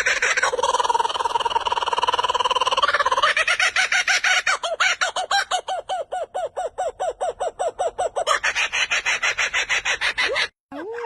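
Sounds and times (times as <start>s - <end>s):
bird calling in rapid notes: 0.0s - 10.5s.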